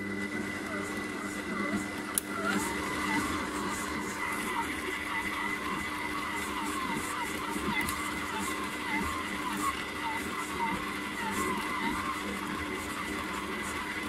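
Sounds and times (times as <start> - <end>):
stand mixer motor whining: 0.0 - 14.0.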